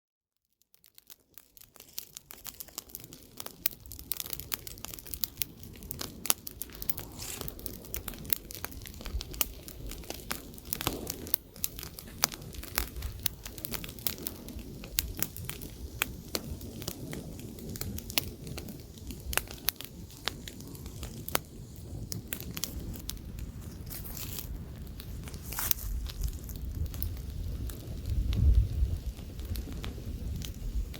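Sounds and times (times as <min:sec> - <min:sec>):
campfire crackling and popping: 0:00.6 - 0:30.9
light wind: 0:01.8 - 0:30.9.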